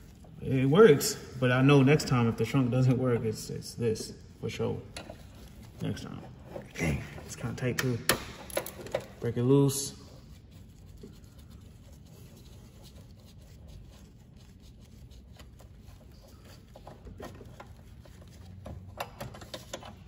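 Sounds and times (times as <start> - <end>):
gloved hands scratching and rubbing: 0.0 - 7.7, 9.2 - 18.9.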